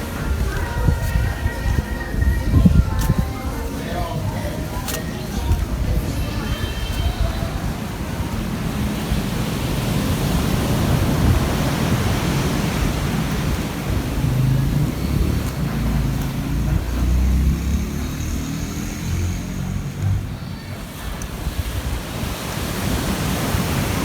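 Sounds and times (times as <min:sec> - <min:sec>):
ocean surf washing: 0:00.0 - 0:17.8, 0:18.4 - 0:24.0
wind on microphone: 0:00.0 - 0:24.0.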